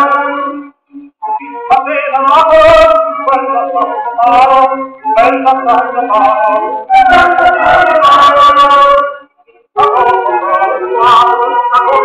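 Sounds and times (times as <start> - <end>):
gramophone playing music: 0.0 - 12.0.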